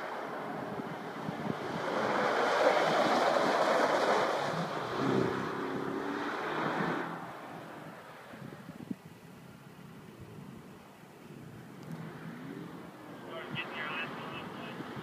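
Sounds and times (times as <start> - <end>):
car engine and tyre noise passing: 0.0 - 15.0.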